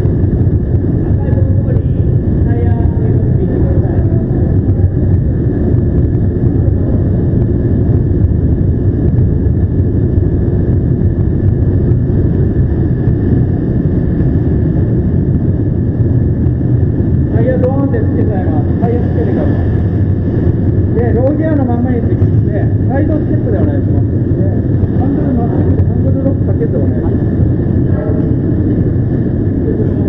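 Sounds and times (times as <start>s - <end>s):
faint high hum: 0.0s - 30.0s
low rumble of engines: 0.0s - 30.0s.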